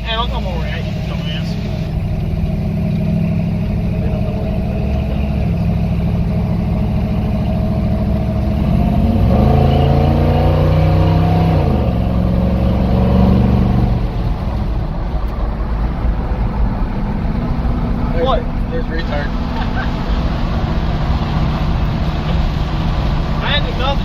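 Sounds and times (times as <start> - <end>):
pickup truck engine accelerating: 0.0 - 24.0.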